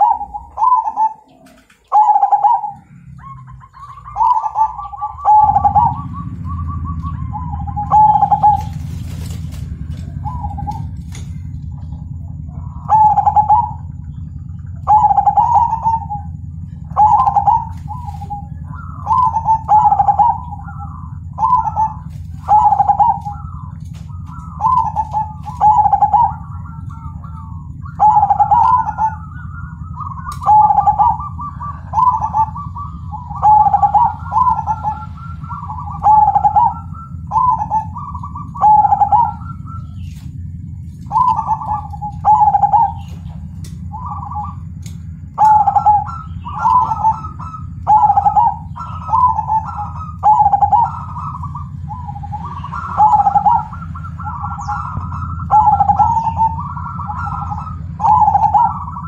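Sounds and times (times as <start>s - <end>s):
dove cooing: 0.0s - 59.0s
low hum: 0.0s - 59.0s.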